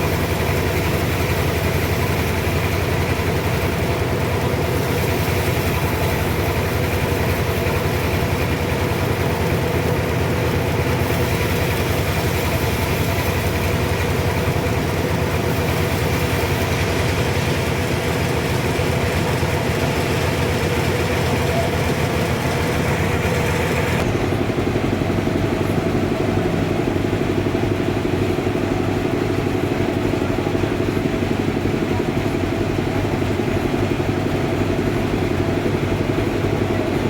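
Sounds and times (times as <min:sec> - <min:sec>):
sawmill machinery humming: 0:00.0 - 0:37.0.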